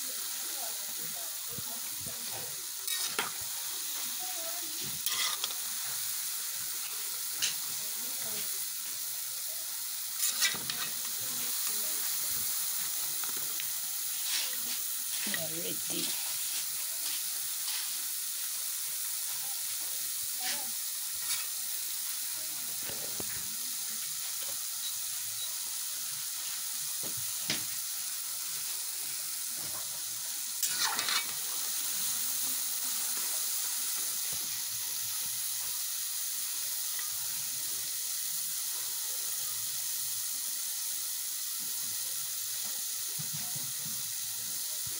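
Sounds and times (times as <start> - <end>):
dough sizzling in hot oil: 0.0 - 44.9.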